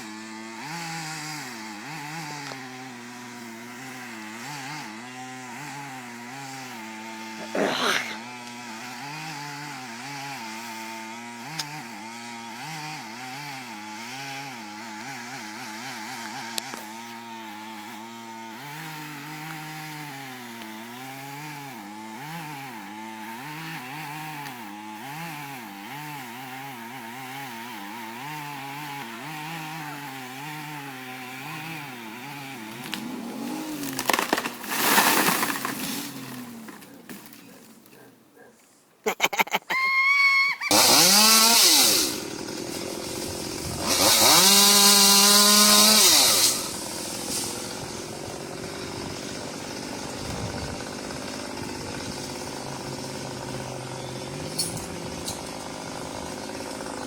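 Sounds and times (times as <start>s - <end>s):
chainsaw cutting: 0.0s - 38.2s, 39.1s - 57.0s.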